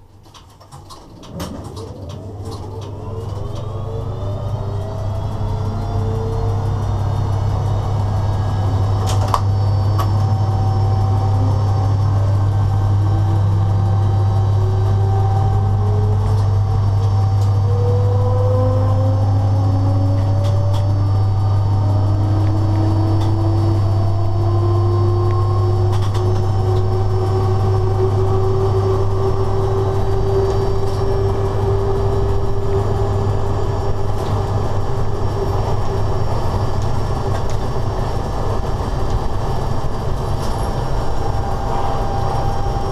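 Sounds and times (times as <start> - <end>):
electric locomotive deep hum: 0.0 - 42.9
motor whines rising in pitch: 1.7 - 42.9.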